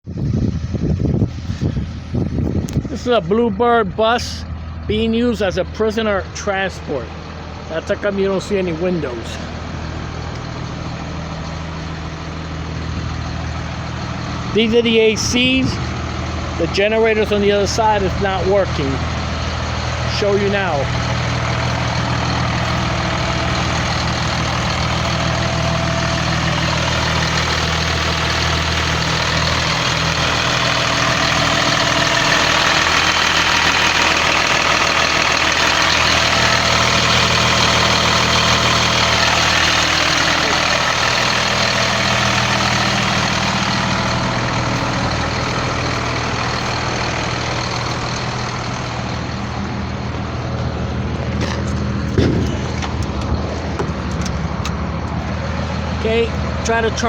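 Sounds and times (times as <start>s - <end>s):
bus engine idling: 0.0s - 57.0s.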